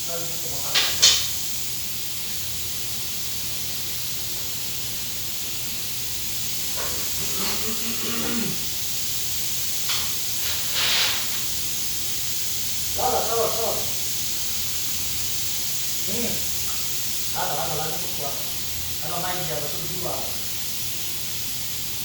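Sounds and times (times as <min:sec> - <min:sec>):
steady hiss: 0:00.0 - 0:22.0
short hissy bursts: 0:00.1 - 0:22.0.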